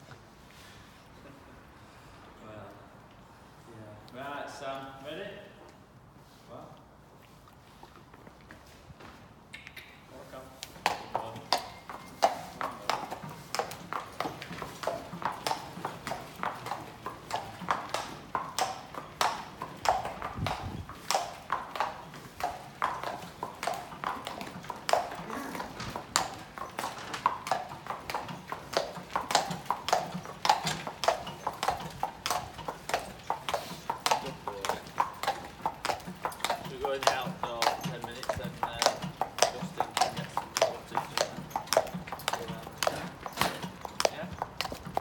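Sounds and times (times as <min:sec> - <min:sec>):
horse hooves clip-clopping: 0:07.0 - 0:45.0.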